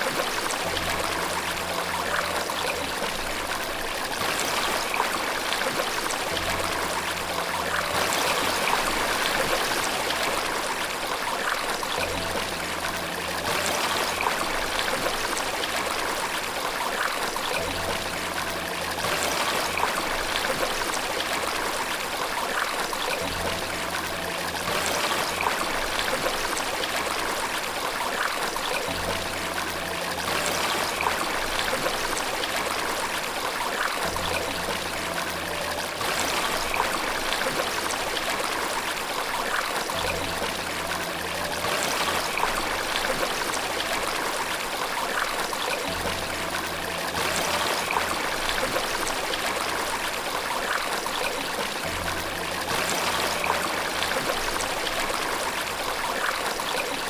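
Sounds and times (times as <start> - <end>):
soft low background music: 0.0 - 57.0
stream water rushing: 0.0 - 57.0.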